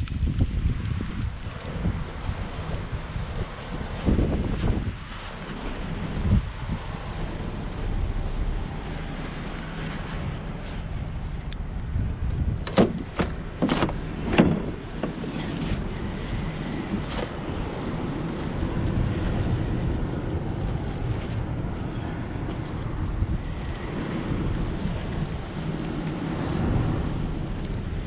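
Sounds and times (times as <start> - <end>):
low hum: 0.0 - 28.0
wind rumbling on microphone: 0.0 - 28.0.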